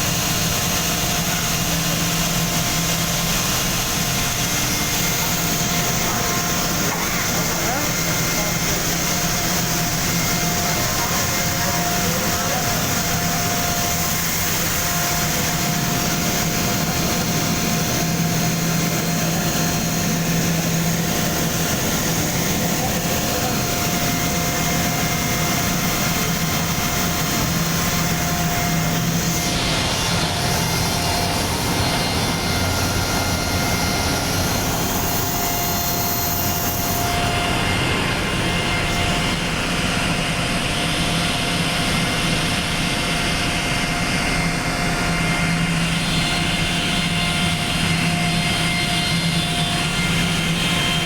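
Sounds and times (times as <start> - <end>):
air compressor running: 0.0 - 51.0.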